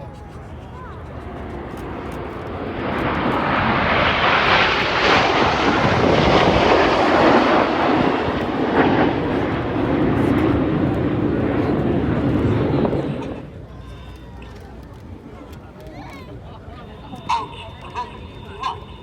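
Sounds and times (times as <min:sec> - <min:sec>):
jet engines roaring past: 0:00.0 - 0:19.0.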